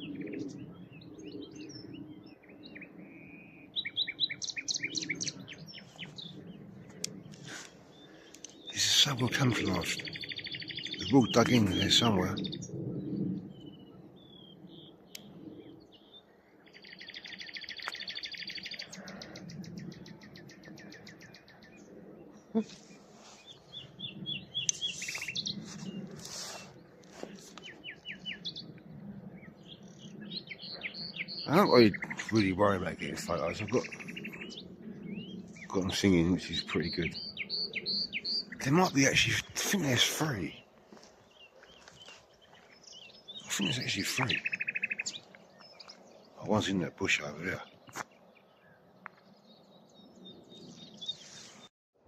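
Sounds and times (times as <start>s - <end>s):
nightingale singing: 0.0s - 6.4s, 7.9s - 12.7s, 13.5s - 21.8s, 22.4s - 26.0s, 27.6s - 51.7s.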